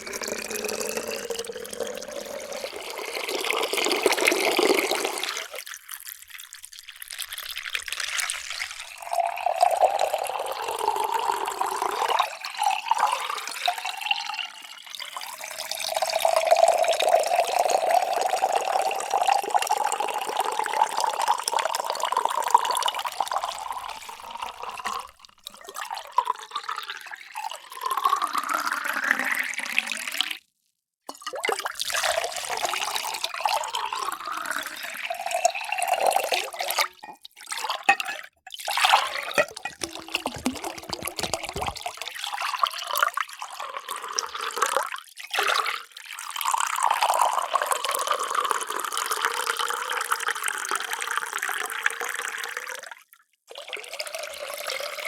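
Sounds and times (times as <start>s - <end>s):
water pouring into vessels: 0.0s - 30.5s, 31.1s - 55.0s.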